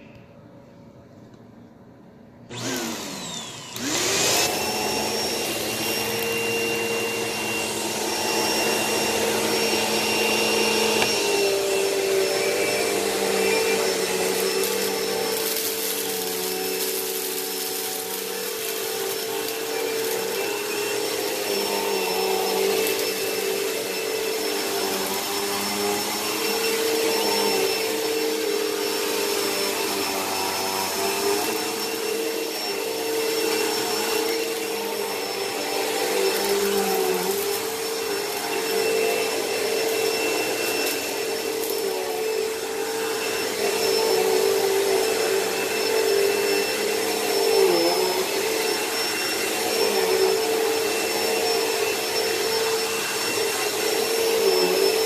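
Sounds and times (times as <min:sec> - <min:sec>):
vacuum cleaner running: 0:02.4 - 0:55.0.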